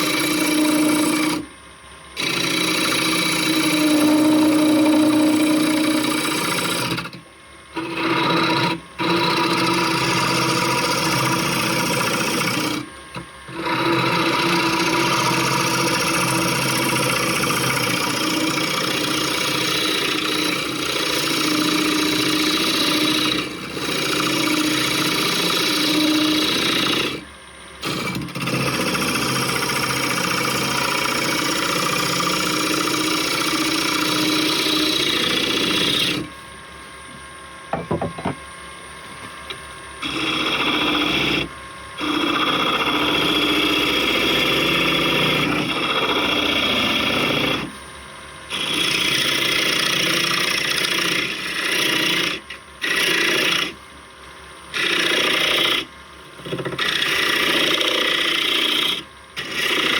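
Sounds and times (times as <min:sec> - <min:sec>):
lathe tool scraping wood: 0:00.0 - 0:01.5, 0:02.1 - 0:36.5, 0:37.7 - 0:38.4, 0:39.2 - 0:47.8, 0:48.5 - 0:53.8, 0:54.7 - 0:59.9.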